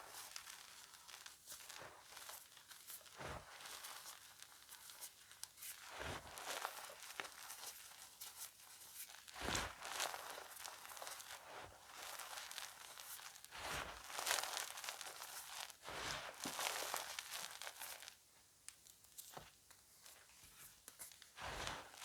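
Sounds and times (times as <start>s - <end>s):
chalk crunching and crackling: 0.0s - 18.2s, 19.1s - 22.0s.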